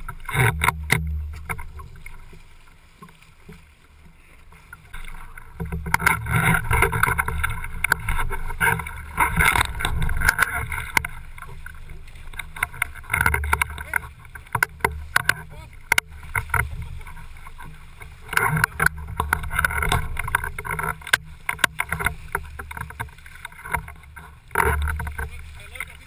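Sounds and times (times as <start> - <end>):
water splashing against board: 0.0 - 26.0.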